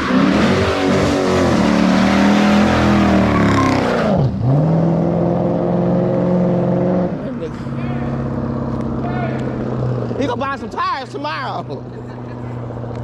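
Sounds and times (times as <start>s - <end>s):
loud car engine revving: 0.0s - 13.0s.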